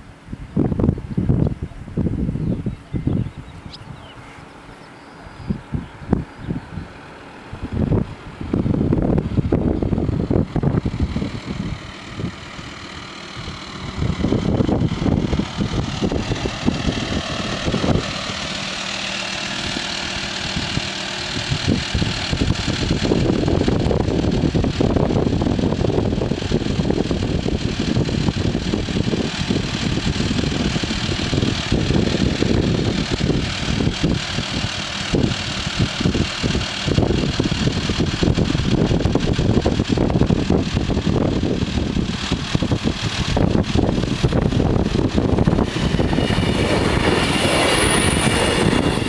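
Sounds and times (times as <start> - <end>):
engine running: 0.0 - 49.0
wind buffeting microphone: 0.0 - 49.0.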